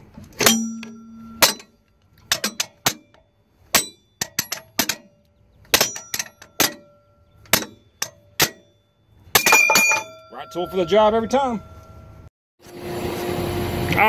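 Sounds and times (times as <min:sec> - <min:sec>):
steel tools clinking on metal: 0:00.4 - 0:12.1.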